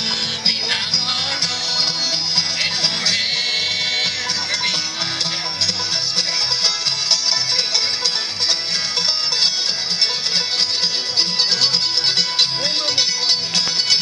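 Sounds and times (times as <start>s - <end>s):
acoustic bluegrass band playing: 0.0s - 14.0s.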